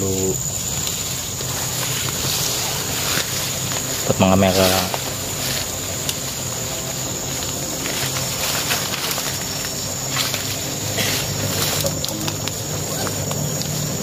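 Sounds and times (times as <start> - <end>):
high-pitched insect drone: 0.0 - 14.0
leaves and brush rustling: 0.0 - 14.0.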